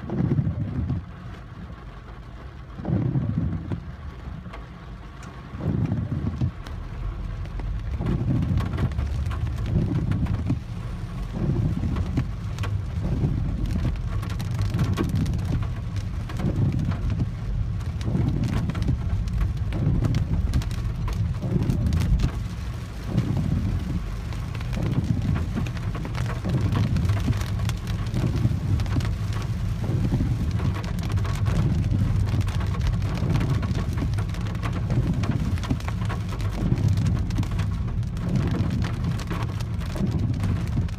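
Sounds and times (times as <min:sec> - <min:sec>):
heavy rain on car roof: 0:00.0 - 0:40.9
low rumble: 0:00.0 - 0:40.9.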